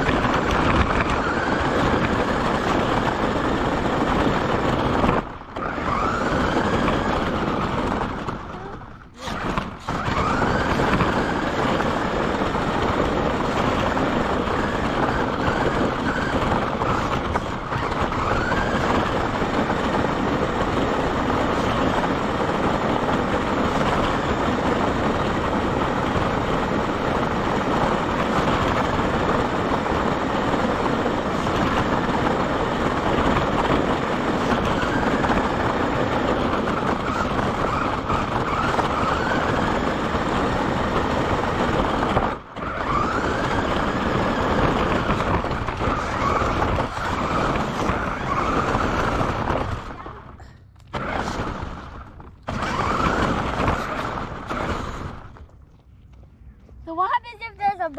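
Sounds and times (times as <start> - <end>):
rc car motor whine: 0.0 - 50.3, 50.9 - 55.4.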